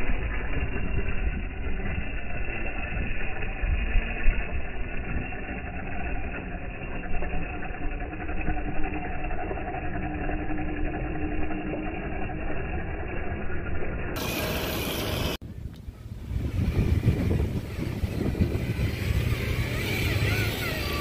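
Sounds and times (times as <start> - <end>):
toy truck motor whining: 0.0 - 15.4, 16.3 - 21.0.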